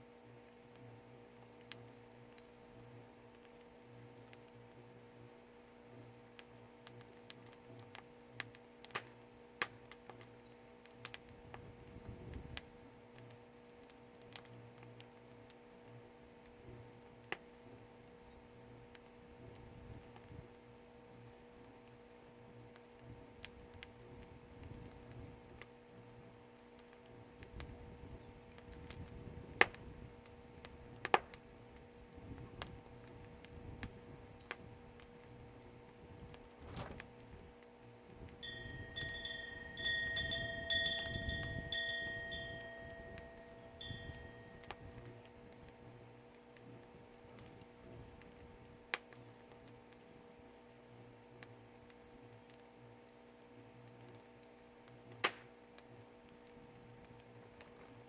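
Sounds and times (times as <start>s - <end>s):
faint steady hum: 0.0s - 58.0s
firewood crackling and popping: 0.0s - 58.0s
low rumble of fire: 0.0s - 58.0s.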